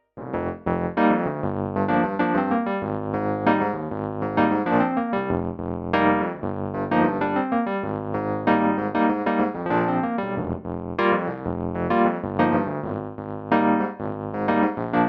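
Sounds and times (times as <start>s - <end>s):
digital piano playing: 0.3s - 15.0s.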